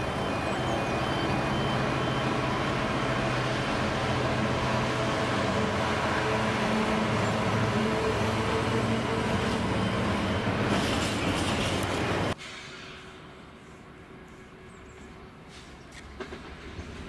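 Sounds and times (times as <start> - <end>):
diesel train engine drone: 0.0 - 17.0
rail noise: 0.0 - 17.0.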